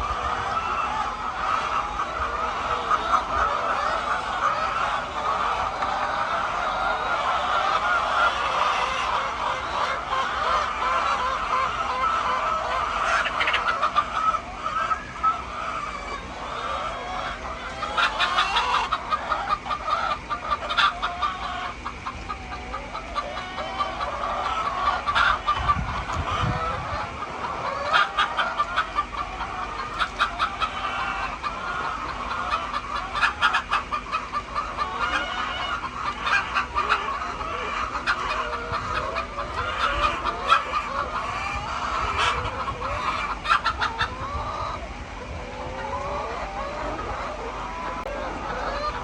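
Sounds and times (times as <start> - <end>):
hens clucking: 0.0 - 49.0.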